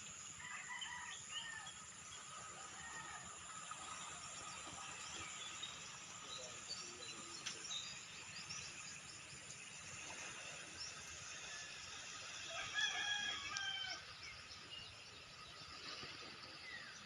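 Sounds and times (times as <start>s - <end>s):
insect hiss: 0.0s - 17.0s.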